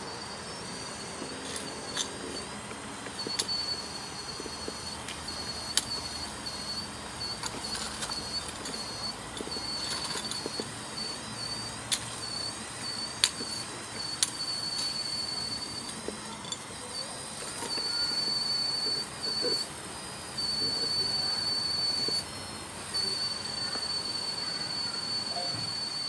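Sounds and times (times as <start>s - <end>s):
model excavator drive whine: 0.0s - 26.0s.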